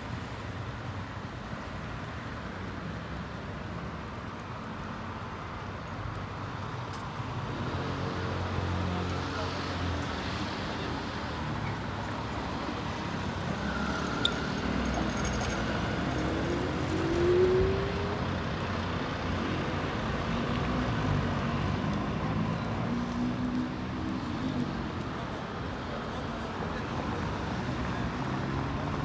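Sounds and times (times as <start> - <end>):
street traffic: 0.0 - 29.0.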